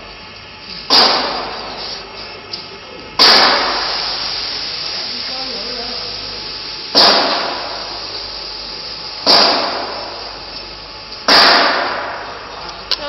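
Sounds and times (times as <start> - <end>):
loud hissing bursts: 0.7 - 2.2, 3.2 - 12.6.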